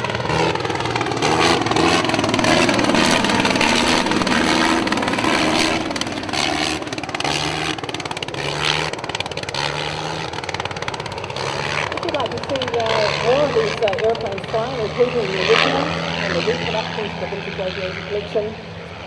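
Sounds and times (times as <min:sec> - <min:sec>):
aircraft rotary engine buzzing: 0:00.0 - 0:19.0.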